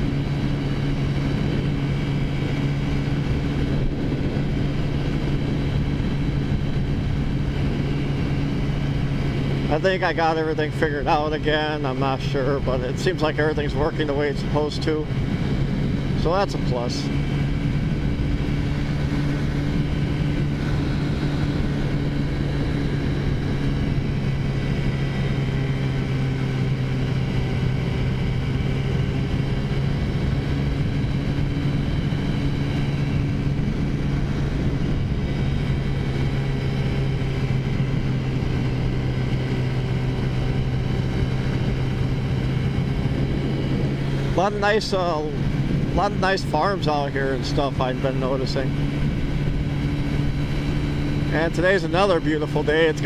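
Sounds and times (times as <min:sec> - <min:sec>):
scooter engine cruising: 0:00.0 - 0:53.0
wind and road noise: 0:00.0 - 0:53.0.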